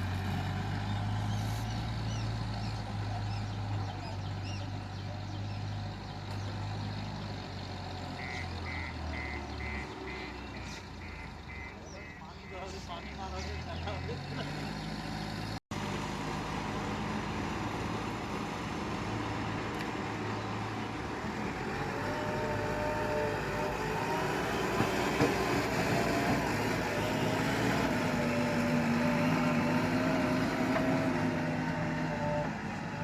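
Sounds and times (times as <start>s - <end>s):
diesel machinery running: 0.0s - 33.0s.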